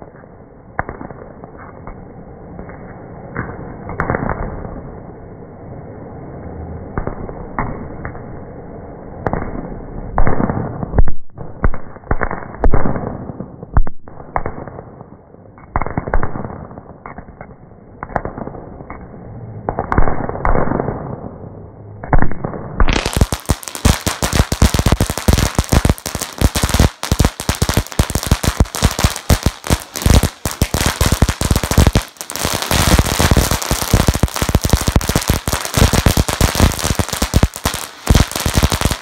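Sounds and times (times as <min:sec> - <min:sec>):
fireworks booms and cracks: 0:00.8 - 0:02.0, 0:02.6 - 0:04.9, 0:09.2 - 0:19.1, 0:19.7 - 0:39.0.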